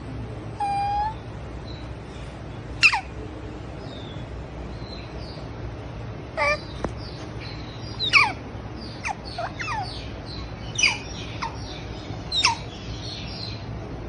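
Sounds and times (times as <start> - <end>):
steady background hum: 0.0 - 14.0
bird calling high falling cries: 0.4 - 5.4, 6.3 - 13.7.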